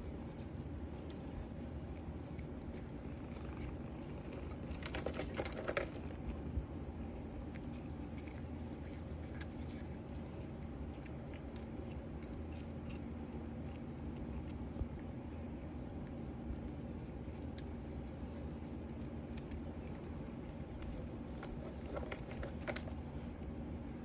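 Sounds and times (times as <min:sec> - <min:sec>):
cat chewing with crunching clicks: 0:00.0 - 0:24.0.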